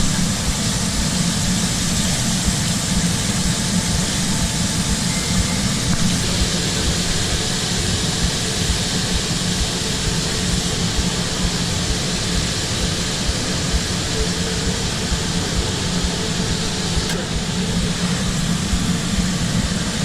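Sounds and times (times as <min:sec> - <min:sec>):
kitchen equipment hiss: 0:00.0 - 0:20.0
low equipment hum: 0:00.0 - 0:20.0.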